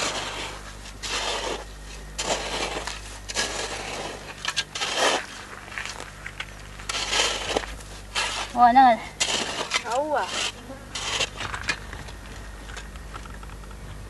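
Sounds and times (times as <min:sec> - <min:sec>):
dry soil scraped by hand: 0:00.0 - 0:11.9.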